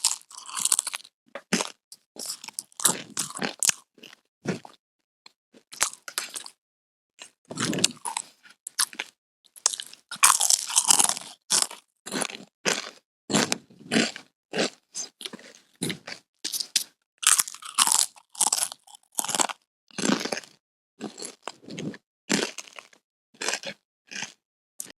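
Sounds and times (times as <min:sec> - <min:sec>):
chewing potato chips: 0:00.0 - 0:04.8, 0:05.6 - 0:06.6, 0:07.2 - 0:24.9.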